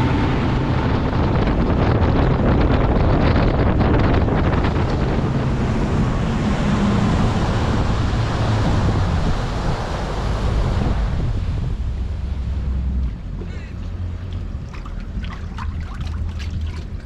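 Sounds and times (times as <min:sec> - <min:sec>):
boat and water rumble: 0:00.0 - 0:17.0
wind buffeting microphone: 0:00.0 - 0:17.0.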